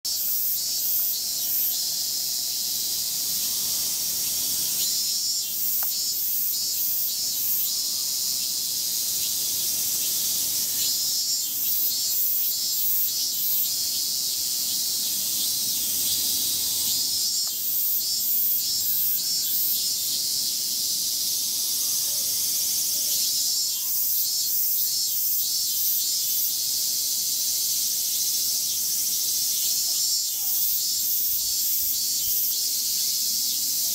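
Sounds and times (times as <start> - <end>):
cicadas droning and pulsing: 0.1 - 33.9.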